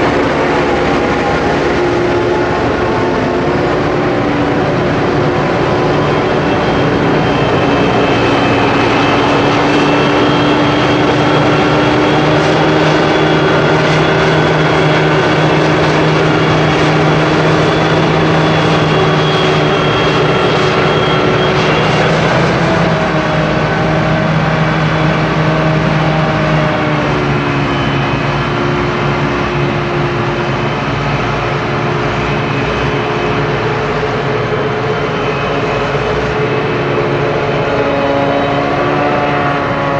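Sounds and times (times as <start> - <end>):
forage harvester running: 0.0 - 39.8
tractors running: 0.0 - 39.9.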